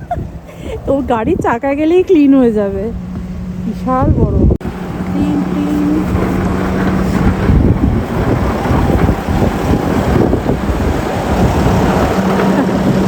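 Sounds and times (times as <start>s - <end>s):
truck engine rumbling: 0.0s - 13.0s
wind buffeting microphone: 0.0s - 13.0s.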